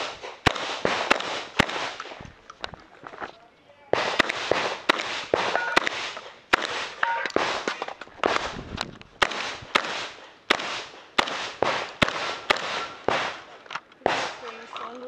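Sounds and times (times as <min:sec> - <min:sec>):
shotgun firing with echo: 0:00.0 - 0:02.3, 0:03.9 - 0:14.6.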